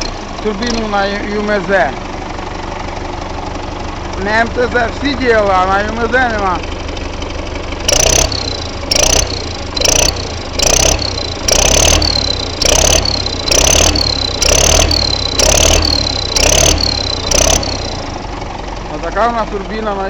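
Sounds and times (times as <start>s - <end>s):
diesel engine revving: 0.0s - 20.0s.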